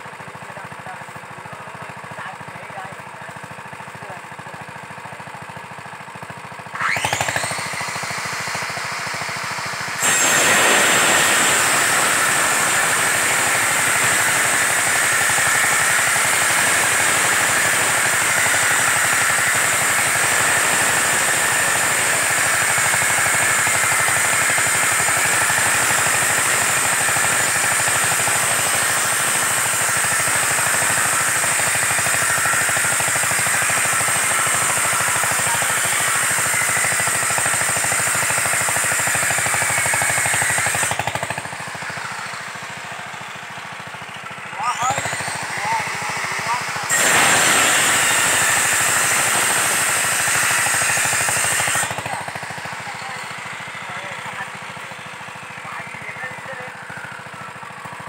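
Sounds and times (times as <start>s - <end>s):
chainsaw cutting wood: 5.8s - 58.0s.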